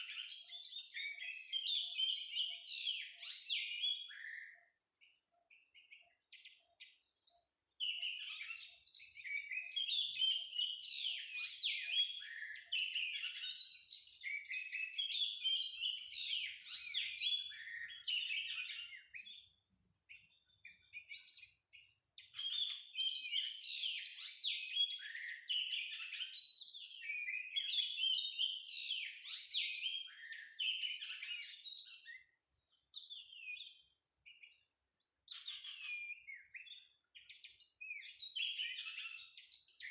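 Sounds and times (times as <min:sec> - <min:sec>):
songbird singing whistles and chirps: 0:00.0 - 0:39.9.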